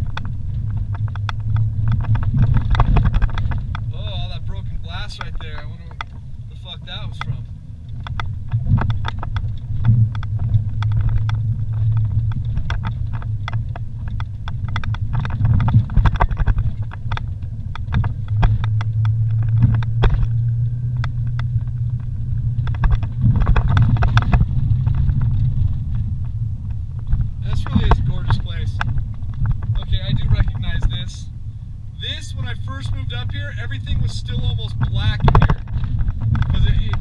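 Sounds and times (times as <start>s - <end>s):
vehicle engine running: 0.0s - 37.0s
vehicle knocks and rattles: 0.0s - 37.0s.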